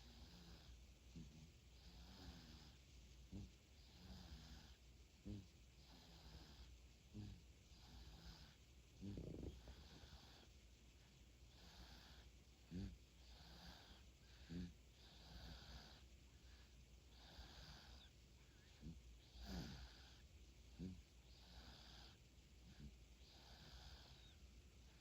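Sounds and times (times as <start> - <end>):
baby snoring softly: 0.0 - 10.5, 11.5 - 25.0
short low snorts: 0.0 - 10.5, 11.5 - 24.4.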